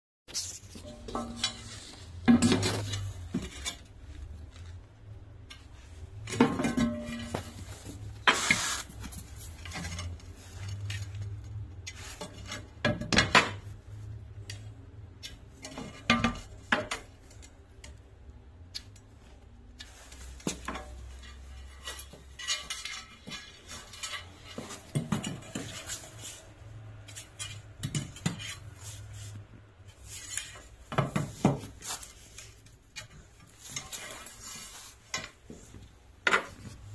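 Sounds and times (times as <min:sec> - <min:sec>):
tiles scraping: 0:00.3 - 0:18.0, 0:18.8 - 0:36.9.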